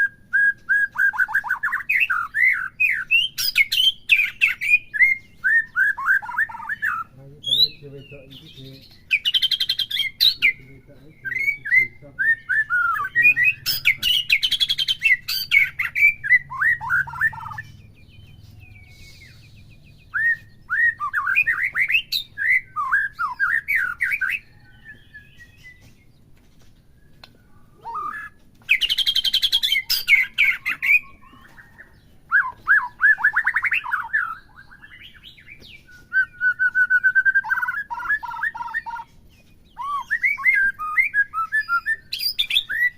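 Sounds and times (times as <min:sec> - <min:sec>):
bird singing whistled phrases: 0:00.0 - 0:26.0, 0:27.0 - 0:39.1, 0:39.7 - 0:42.9.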